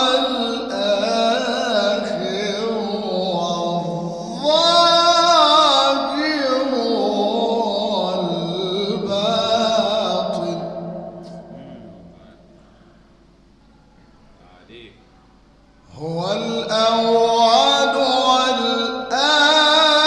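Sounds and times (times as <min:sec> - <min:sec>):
man chanting a devotional hymn: 0:00.0 - 0:13.0, 0:15.9 - 0:20.0.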